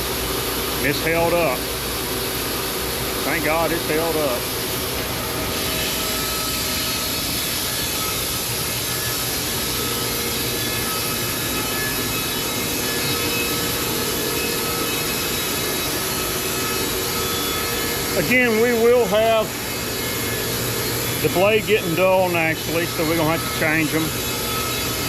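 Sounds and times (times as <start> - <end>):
band sawmill cutting log: 3.2 - 25.0.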